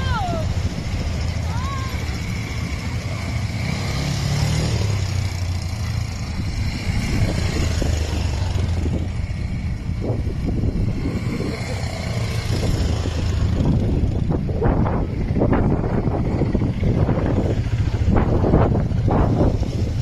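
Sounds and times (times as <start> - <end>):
engine revving: 0.0 - 20.0
quad bike engines passing: 0.0 - 20.0.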